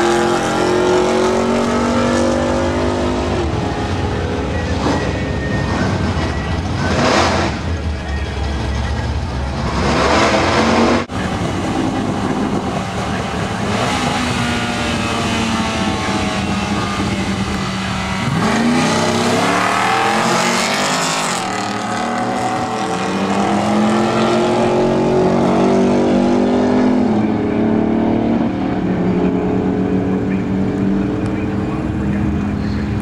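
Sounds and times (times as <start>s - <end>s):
cars accelerating hard: 0.0s - 33.0s.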